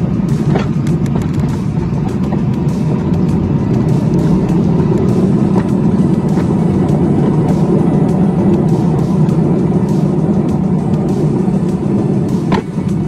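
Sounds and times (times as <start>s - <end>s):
miniature train rumbling: 0.0s - 13.0s
wheels clicking on rails: 0.0s - 13.0s.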